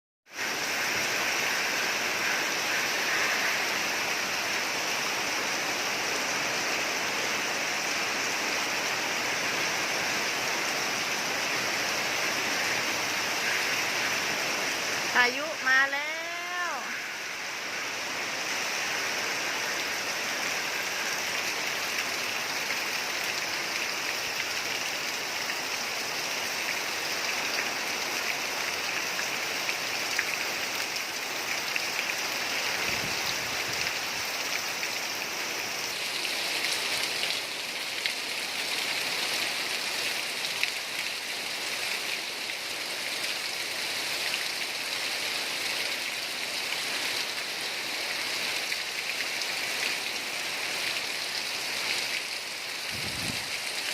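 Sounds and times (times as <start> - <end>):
heavy rain pouring: 0.3 - 53.9.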